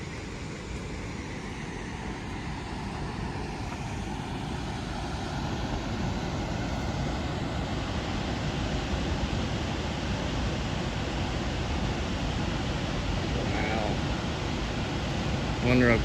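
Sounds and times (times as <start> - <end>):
waterfall roaring: 0.2 - 16.0.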